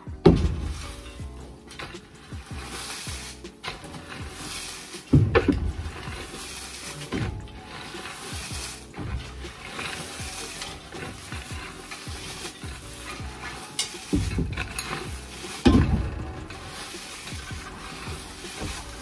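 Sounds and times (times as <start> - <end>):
loud bumps: 0.0 - 19.0
wood chips raked on floor: 0.0 - 19.0.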